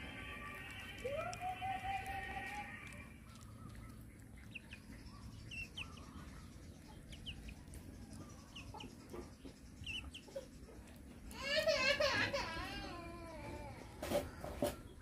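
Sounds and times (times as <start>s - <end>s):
chick peeping: 0.0s - 15.0s.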